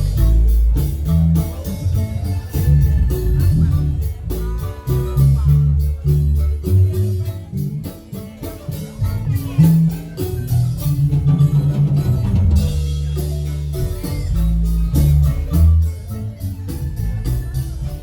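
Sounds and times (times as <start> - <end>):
marimba band playing: 0.0 - 18.0
strong bass line: 0.0 - 18.0.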